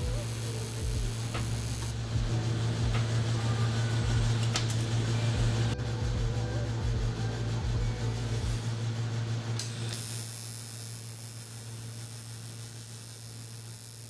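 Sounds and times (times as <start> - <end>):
welder electrical hum: 0.0 - 14.0
welding arc hissing: 0.0 - 14.0.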